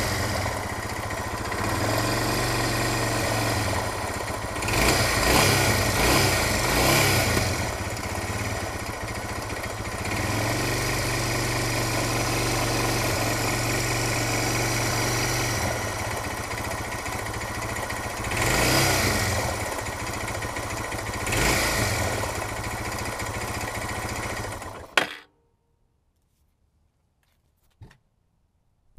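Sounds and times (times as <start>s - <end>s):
motorcycle engine idling and revving: 0.0s - 25.3s.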